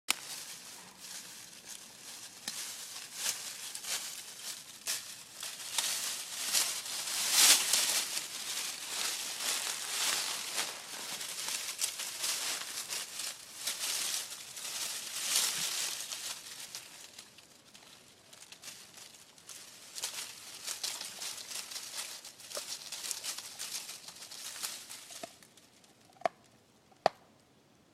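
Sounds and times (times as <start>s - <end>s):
animal chewing wood and leaves: 0.1s - 27.2s.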